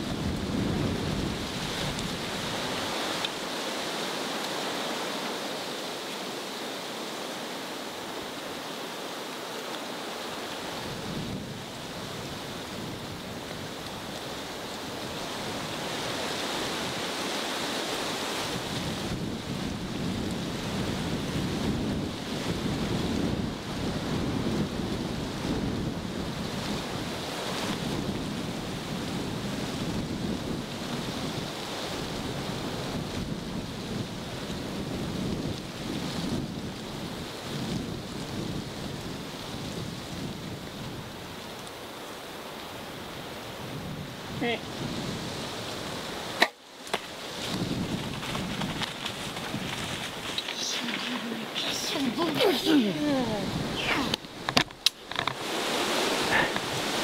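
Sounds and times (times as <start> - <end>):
wind buffeting microphone: 0.0 - 3.6, 10.6 - 41.6, 42.8 - 46.4, 47.0 - 57.0
wind through brush and grass: 0.0 - 57.0.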